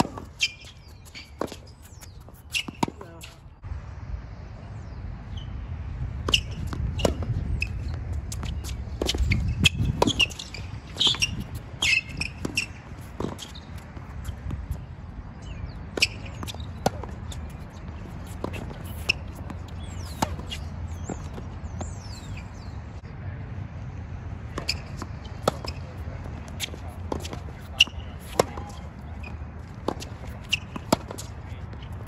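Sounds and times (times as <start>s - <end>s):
racket striking tennis ball: 0.0s - 3.4s, 6.2s - 14.8s, 15.9s - 22.4s, 24.5s - 32.0s
sneakers squeaking on court: 0.0s - 3.6s, 4.8s - 23.0s, 24.5s - 32.0s.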